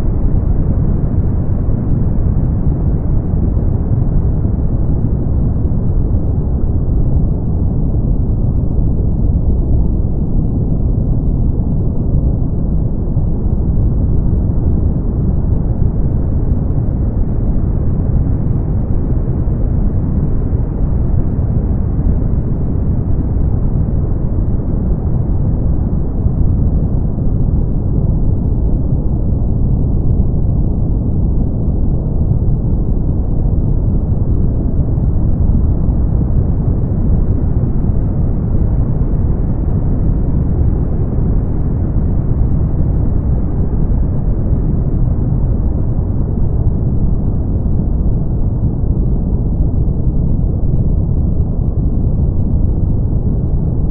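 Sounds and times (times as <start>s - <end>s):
brown noise rumble: 0.0s - 53.9s.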